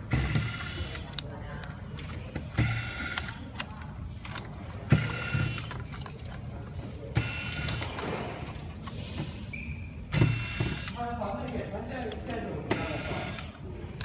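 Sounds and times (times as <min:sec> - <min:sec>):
plastic connectors clicking: 0:00.3 - 0:09.0, 0:10.6 - 0:14.0.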